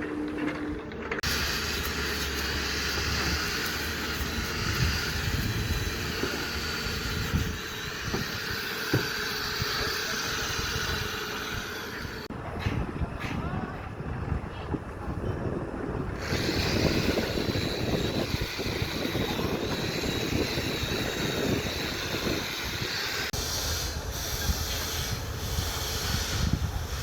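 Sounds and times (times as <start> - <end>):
construction machinery rumbling: 0.0 - 27.0.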